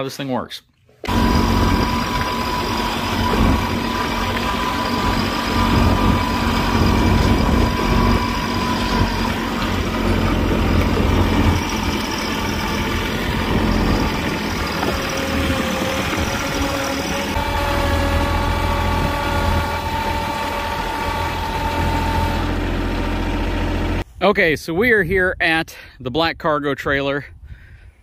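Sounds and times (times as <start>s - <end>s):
tractor diesel engine running: 1.0s - 24.0s.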